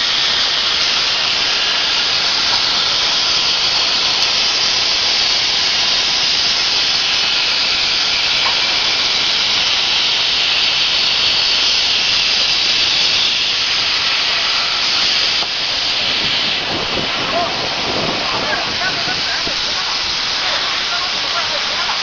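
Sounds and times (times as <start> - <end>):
plasma torch hissing: 0.0 - 22.0.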